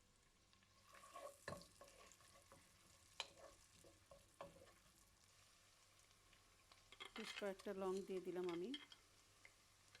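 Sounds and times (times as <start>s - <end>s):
onion sizzling in pan: 0.0s - 10.0s.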